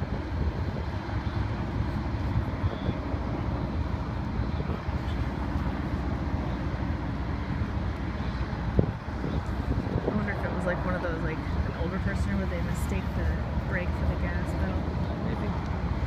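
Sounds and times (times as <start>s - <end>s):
road traffic rumble: 0.0s - 16.0s
wind buffeting microphone: 0.0s - 16.0s.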